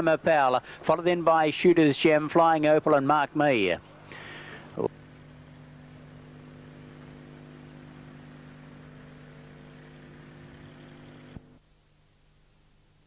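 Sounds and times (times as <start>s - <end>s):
electrical buzzing hum: 0.0s - 13.0s
faint hiss: 0.0s - 13.0s.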